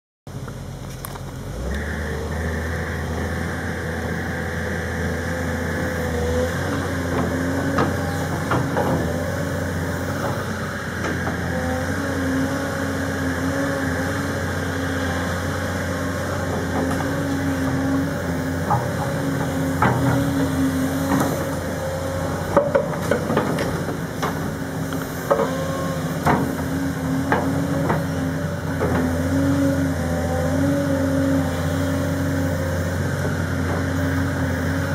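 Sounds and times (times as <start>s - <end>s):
excavator diesel engine running: 0.3s - 34.9s.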